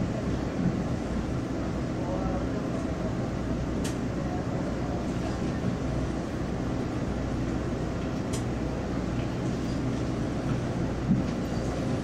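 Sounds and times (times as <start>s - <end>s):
train rumbling through station: 0.0s - 12.0s.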